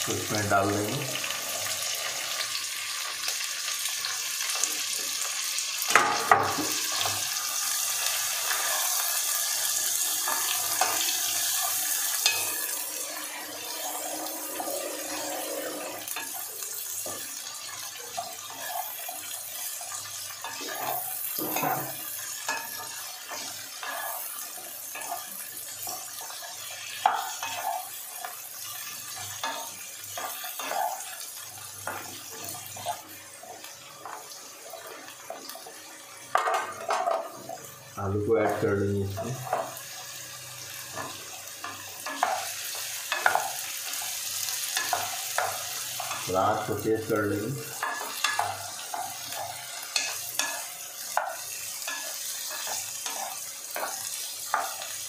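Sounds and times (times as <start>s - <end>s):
vegetables sizzling in hot oil: 0.0s - 55.0s.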